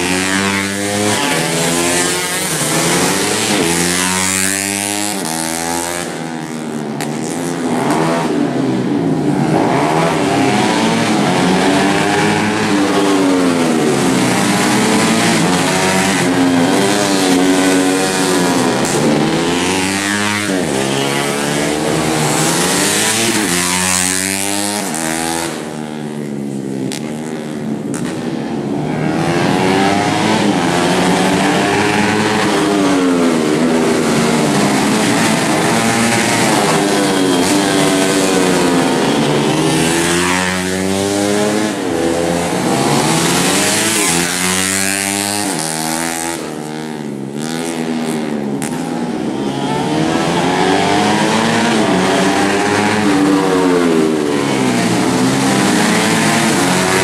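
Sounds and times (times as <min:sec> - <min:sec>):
motorcycles revving past: 0:00.0 - 0:57.0.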